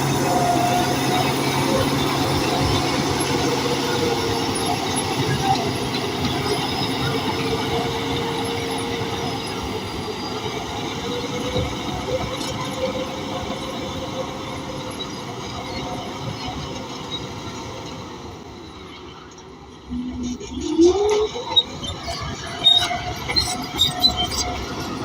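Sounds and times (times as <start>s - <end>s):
steel tracks clattering: 0.0s - 25.0s.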